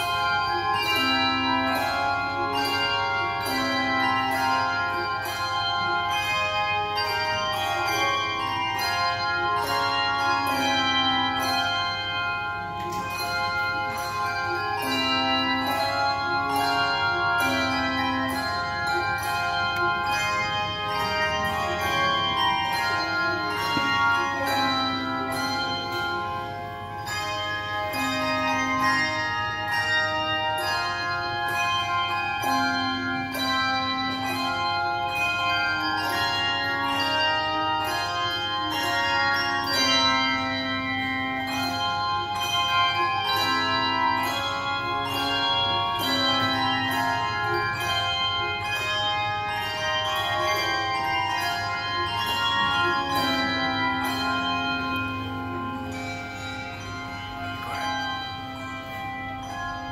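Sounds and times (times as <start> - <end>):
handbell choir playing: 0.0 - 59.9
long low bell notes: 0.0 - 59.9.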